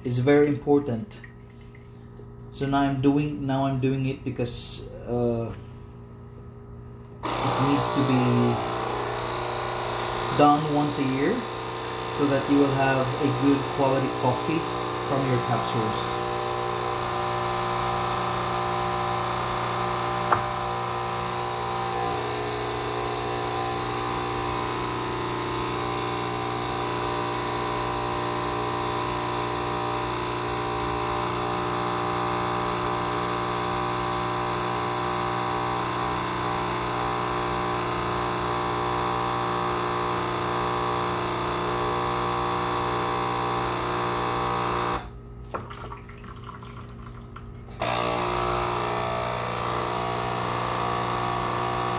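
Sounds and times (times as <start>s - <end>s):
coffee machine pump buzzing: 0.0s - 45.7s, 46.3s - 51.9s.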